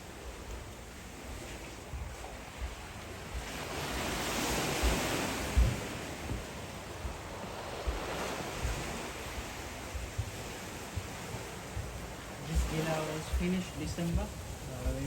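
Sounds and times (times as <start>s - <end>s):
ocean surf washing up: 0.0s - 15.0s
wind buffeting microphone: 0.0s - 15.0s.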